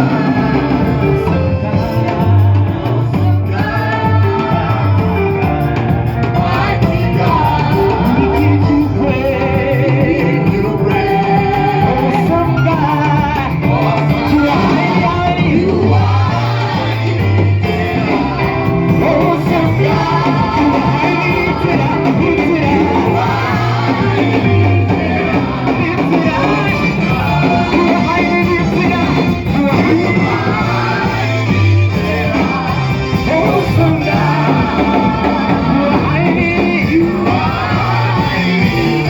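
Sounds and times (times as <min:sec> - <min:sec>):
repeating low bass line: 0:00.0 - 0:39.0
voices singing worship music: 0:00.0 - 0:39.0.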